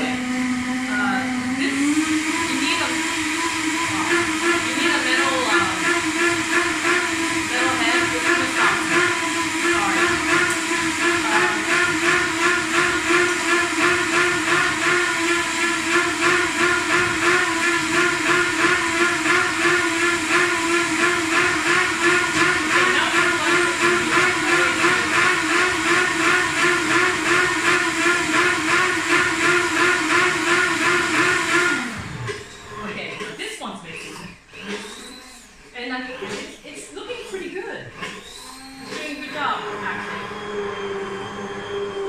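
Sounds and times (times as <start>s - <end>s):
blender motor whirring: 0.0s - 42.0s.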